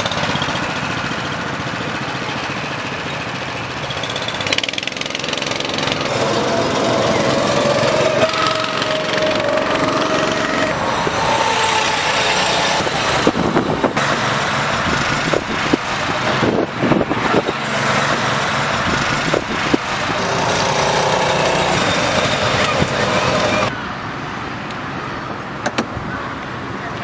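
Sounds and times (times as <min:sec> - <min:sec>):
go-kart engines droning: 0:00.0 - 0:27.0.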